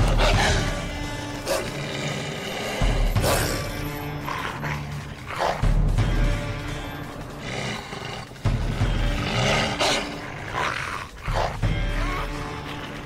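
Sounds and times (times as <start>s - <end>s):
dogs snarling and growling: 0.0s - 13.0s
tense music with bass pulse: 0.0s - 13.0s.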